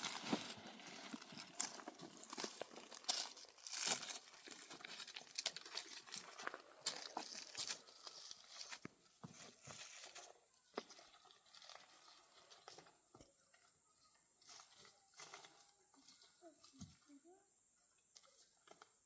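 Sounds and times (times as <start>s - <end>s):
leaves and twigs rustling: 0.0s - 17.4s.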